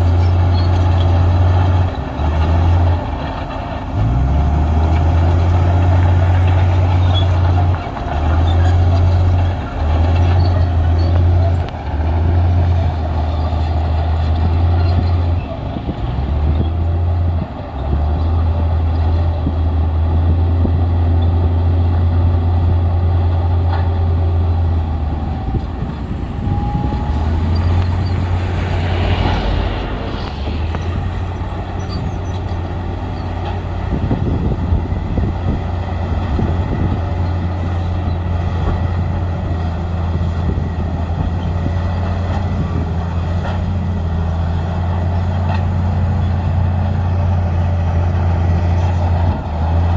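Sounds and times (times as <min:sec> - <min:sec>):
heavy diesel machinery running: 0:00.0 - 0:49.9.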